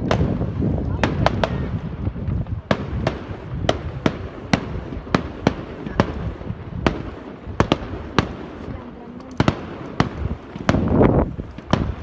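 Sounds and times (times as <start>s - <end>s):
fireworks bangs: 0.0s - 12.0s
steady low rumble: 0.0s - 12.0s.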